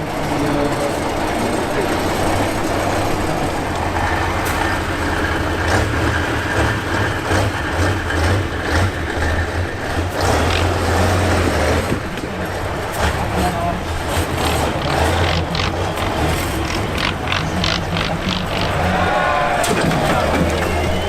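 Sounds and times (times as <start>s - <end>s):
heavy truck engine running: 0.0s - 21.0s
knocks and clatters: 0.1s - 21.0s.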